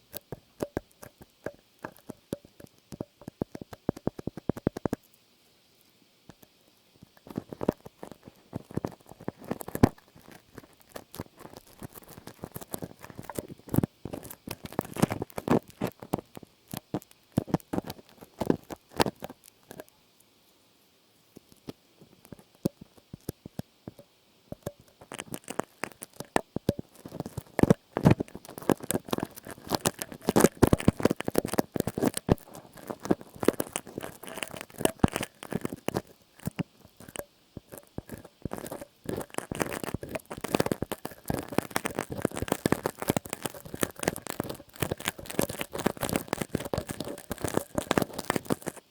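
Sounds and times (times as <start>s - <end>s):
crackly taps and rustles: 0.0s - 5.2s, 5.8s - 20.6s, 21.2s - 48.9s.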